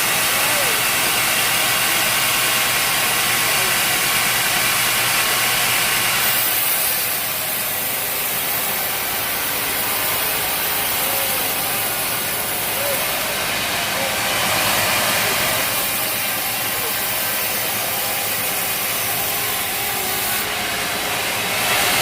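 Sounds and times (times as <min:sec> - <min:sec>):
sawmill machinery drone and hiss: 0:00.0 - 0:22.0.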